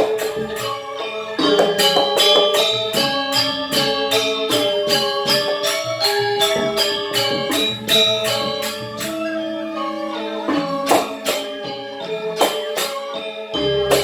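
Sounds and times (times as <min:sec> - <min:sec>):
gamelan metallophones: 0:00.0 - 0:14.0.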